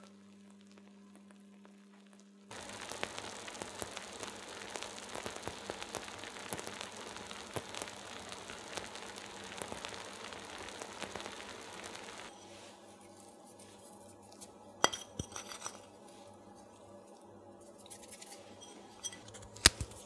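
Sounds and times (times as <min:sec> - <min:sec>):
baked tart sizzling and crackling: 0:00.0 - 0:20.0
faint steady hum: 0:00.0 - 0:20.0.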